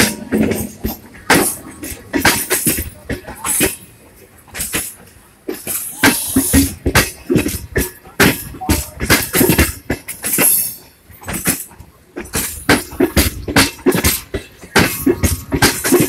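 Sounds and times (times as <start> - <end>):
train wheels clanking over rail joints: 0.0 - 16.0.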